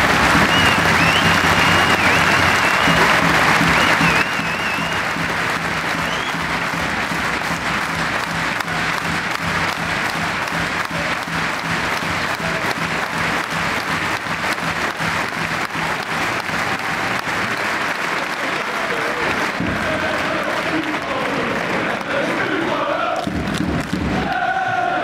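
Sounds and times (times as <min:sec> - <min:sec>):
large crowd applauding: 0:00.0 - 0:25.0.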